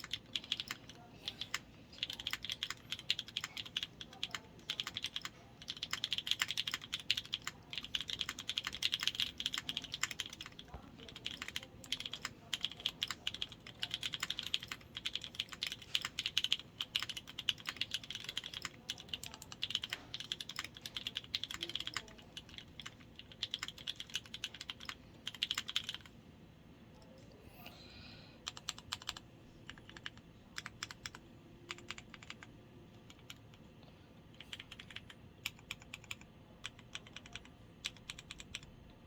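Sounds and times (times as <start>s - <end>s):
mechanical keyboard typing: 0.0s - 26.1s, 28.4s - 33.4s, 34.3s - 38.7s.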